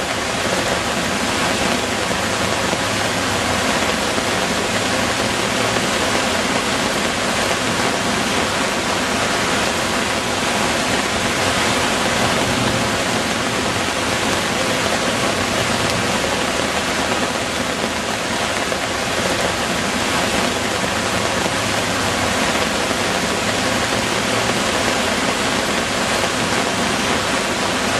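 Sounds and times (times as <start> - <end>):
heavy rain pouring: 0.0 - 27.9.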